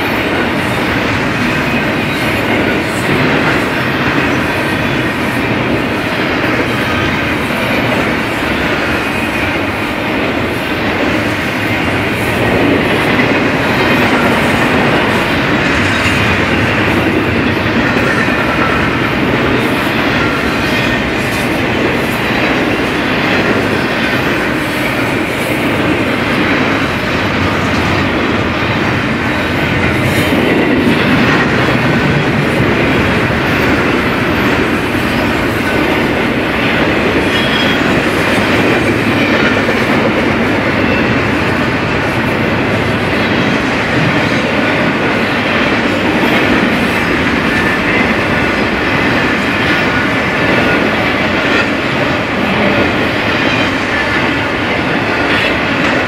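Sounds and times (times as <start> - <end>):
steel wheels running on rail: 0.0 - 56.0.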